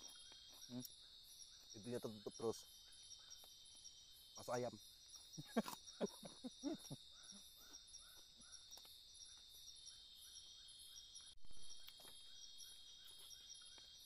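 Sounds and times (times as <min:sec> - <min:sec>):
crickets and insects chirping: 0:00.0 - 0:14.0.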